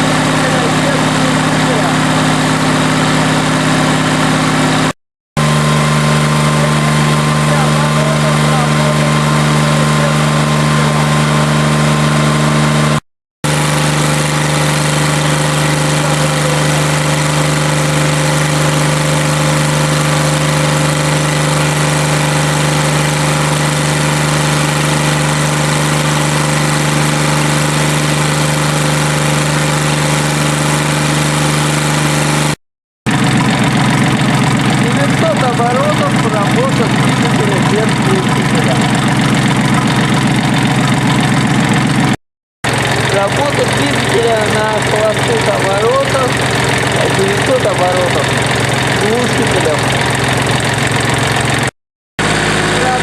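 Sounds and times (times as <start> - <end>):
diesel engine running steadily: 0.0 - 53.0.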